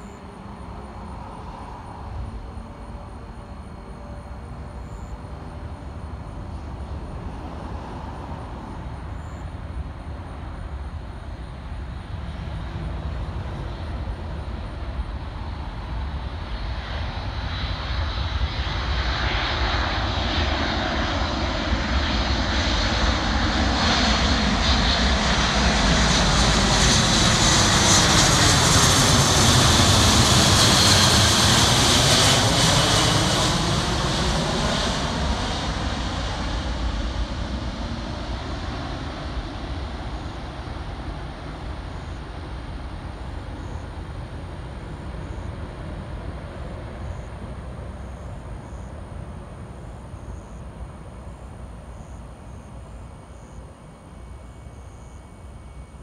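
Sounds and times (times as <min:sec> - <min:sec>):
jet engines with high whine: 0:00.0 - 0:56.0.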